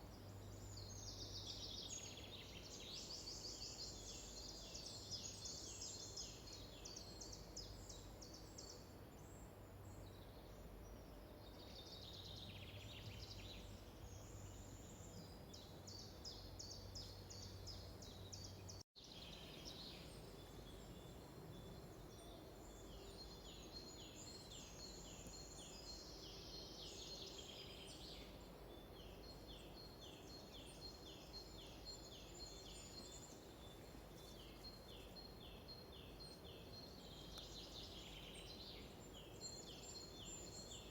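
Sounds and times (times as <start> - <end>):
songbirds singing trills: 0.0 - 40.9.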